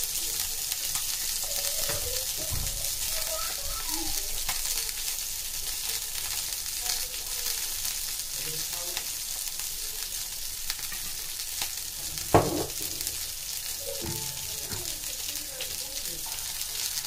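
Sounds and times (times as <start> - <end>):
onions sizzling in frying pan: 0.0 - 17.0.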